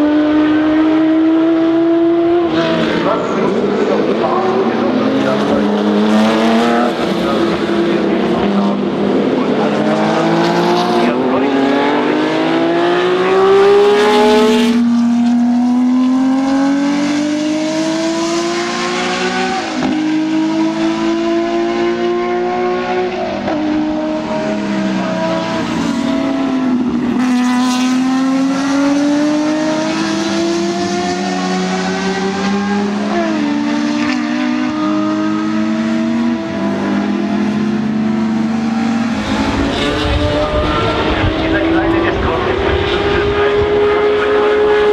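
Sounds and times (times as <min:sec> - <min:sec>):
racing car engines revving: 0:00.0 - 0:44.9.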